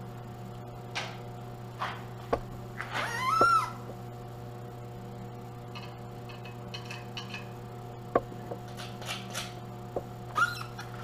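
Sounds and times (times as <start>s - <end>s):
welder humming: 0.0s - 11.0s.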